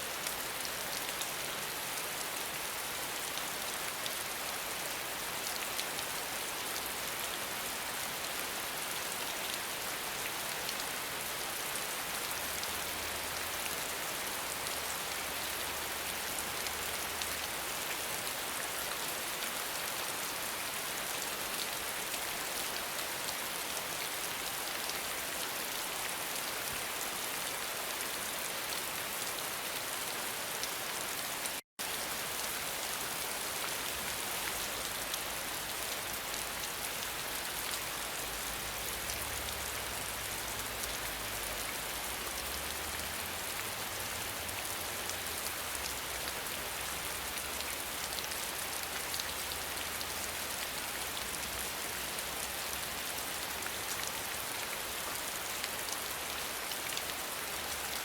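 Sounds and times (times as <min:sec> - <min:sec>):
dense rain falling: 0:00.0 - 0:58.0.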